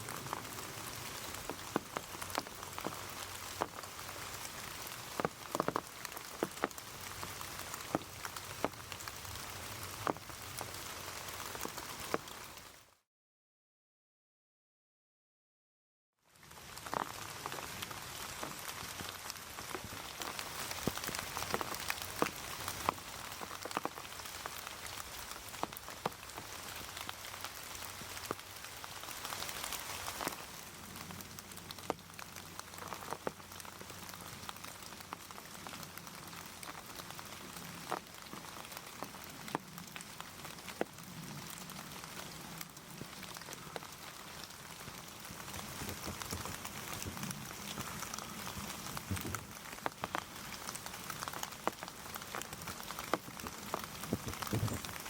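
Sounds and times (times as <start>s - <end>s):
heavy rain falling: 0.0s - 12.8s, 16.4s - 55.0s
sharp raindrops hitting close by: 0.0s - 13.0s, 16.3s - 55.0s.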